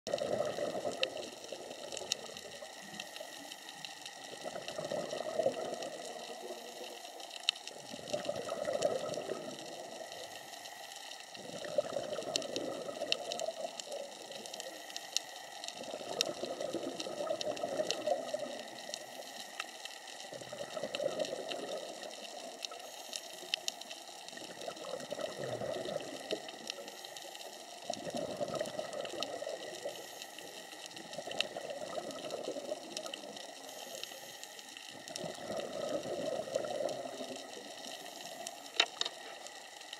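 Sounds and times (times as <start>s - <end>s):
faint sharp clicks: 0.1s - 39.9s
underwater breathing bubbles: 0.1s - 39.9s.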